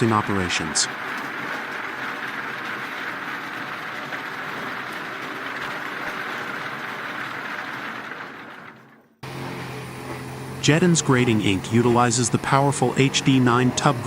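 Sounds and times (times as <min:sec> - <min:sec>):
debarker machine clatter and rumble: 0:00.0 - 0:14.0.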